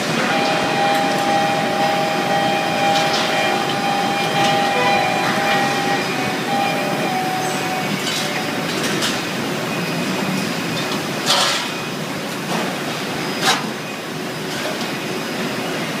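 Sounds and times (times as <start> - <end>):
factory machinery noise: 0.0 - 16.0.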